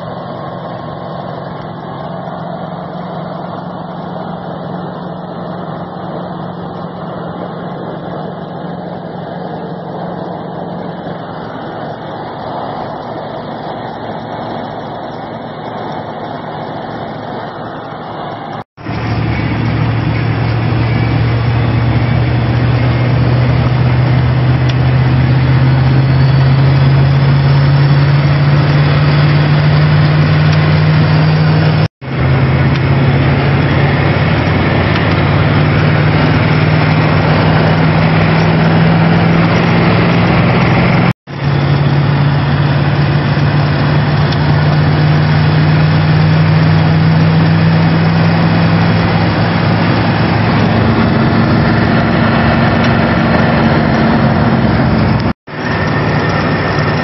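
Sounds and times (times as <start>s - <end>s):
diesel engine under load: 0.0s - 57.0s
turbo whistling: 0.0s - 57.0s.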